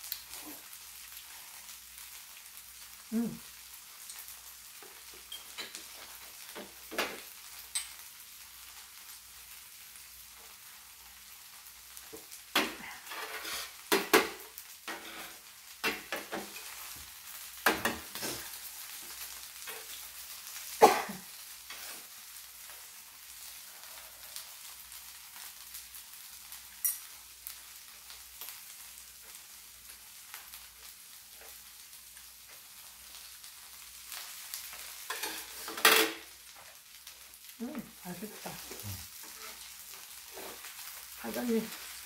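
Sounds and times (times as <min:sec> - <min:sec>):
pancake sizzling on a griddle: 0:00.0 - 0:42.0.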